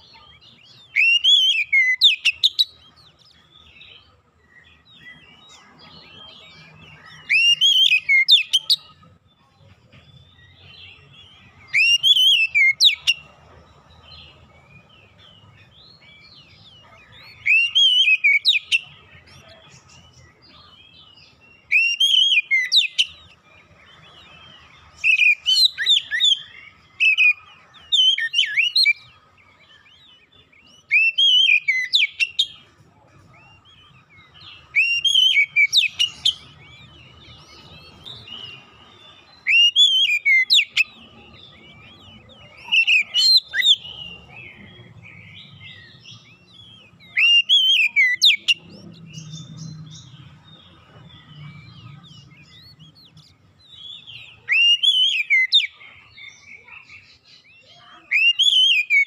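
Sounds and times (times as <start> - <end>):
bird whistled song: 0.0 - 59.0
soft bird twittering: 0.0 - 59.0.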